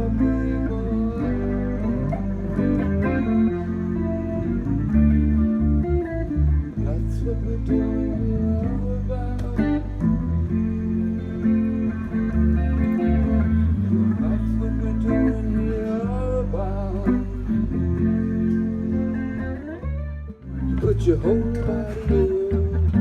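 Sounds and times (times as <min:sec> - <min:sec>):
bass line: 0:00.0 - 0:23.0
bending guitar notes: 0:00.0 - 0:23.0
live band with guitars: 0:00.0 - 0:23.0.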